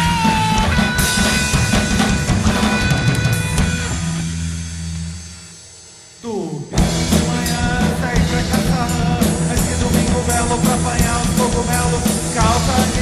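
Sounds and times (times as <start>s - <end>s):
drum kit and cymbals: 0.0s - 13.0s
garage rock band playing: 0.0s - 13.0s.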